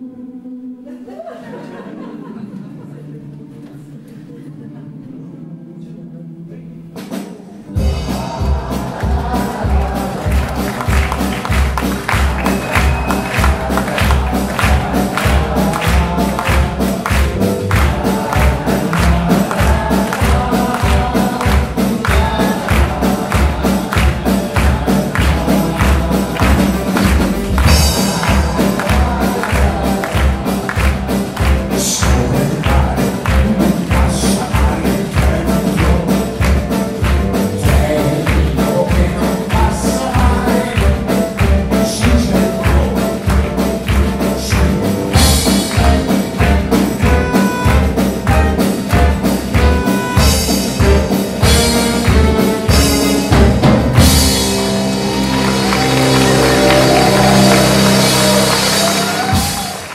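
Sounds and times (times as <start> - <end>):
small band playing upbeat song: 6.7 - 59.9.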